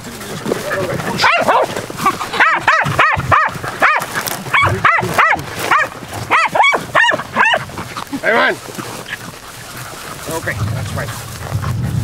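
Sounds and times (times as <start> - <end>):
small dogs yapping: 0.6 - 12.0.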